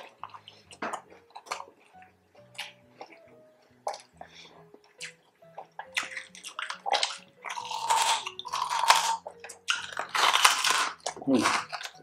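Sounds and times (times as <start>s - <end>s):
chewing crispy pork: 0.0s - 12.0s.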